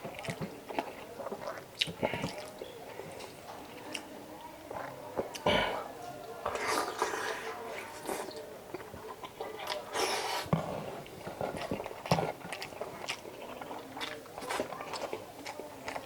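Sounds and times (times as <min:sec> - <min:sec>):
person chewing food: 0:00.0 - 0:04.1, 0:04.7 - 0:05.8, 0:06.4 - 0:16.0.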